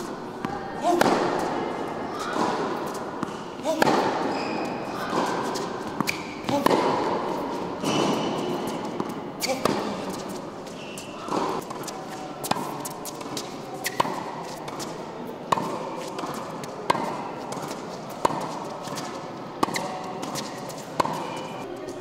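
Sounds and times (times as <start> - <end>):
tennis ball struck with a racket: 0.0 - 4.4, 5.0 - 10.3, 11.2 - 21.5.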